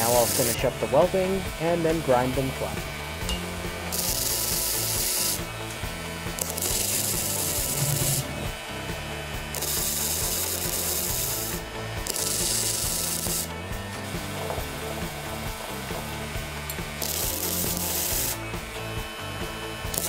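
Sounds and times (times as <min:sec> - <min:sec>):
welding arc crackling and hissing: 0:00.0 - 0:20.0.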